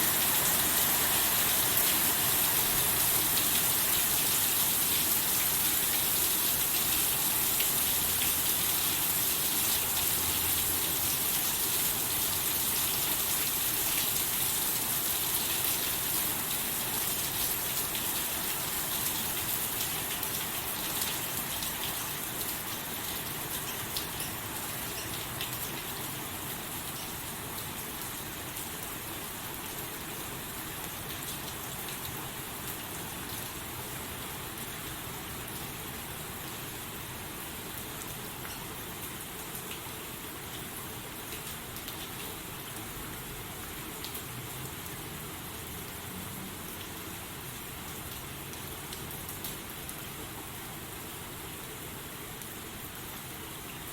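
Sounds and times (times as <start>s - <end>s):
rain pattering on a surface: 0.0s - 53.9s.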